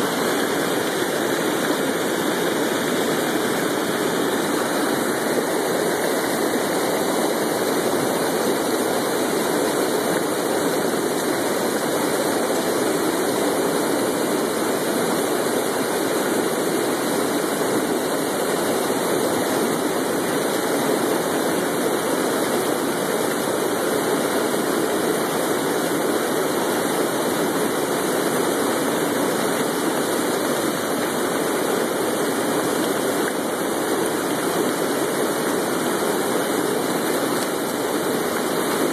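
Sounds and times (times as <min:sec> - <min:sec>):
water rushing over dam spillway: 0:00.0 - 0:38.9.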